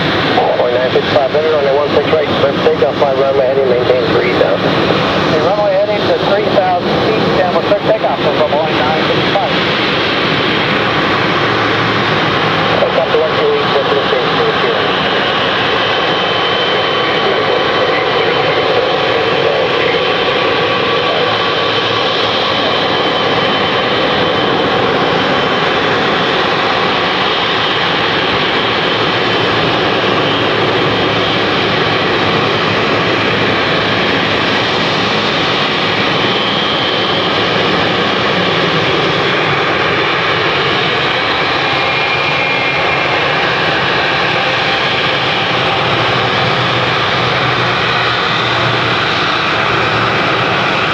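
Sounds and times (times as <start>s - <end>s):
jet engines rumbling with whine: 0.0s - 50.9s.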